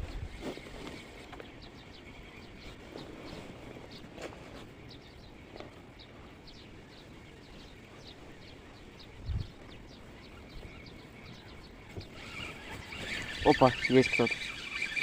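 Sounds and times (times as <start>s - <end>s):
low wind rumble: 0.0s - 14.7s
small bird chirping: 0.0s - 15.0s.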